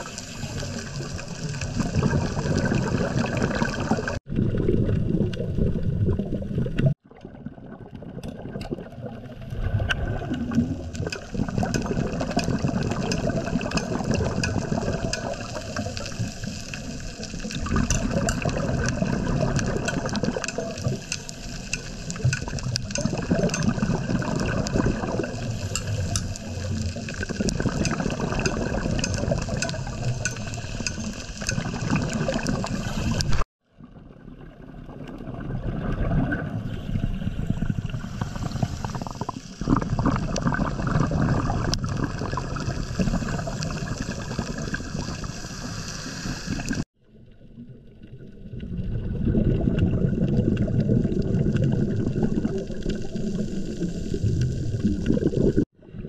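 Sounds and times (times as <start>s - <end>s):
water gurgling: 0.0s - 56.0s.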